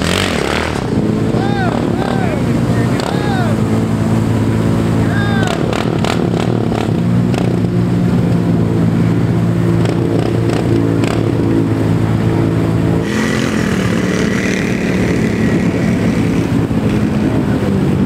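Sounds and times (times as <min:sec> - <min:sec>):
quad bike engine running hard: 0:00.0 - 0:18.0.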